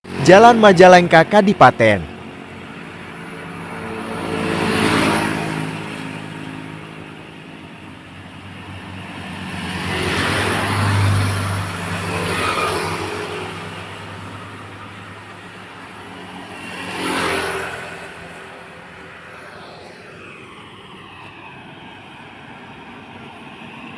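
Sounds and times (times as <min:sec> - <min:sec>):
motor vehicles passing: 0:00.0 - 0:23.9
steady engine hum: 0:00.0 - 0:23.9.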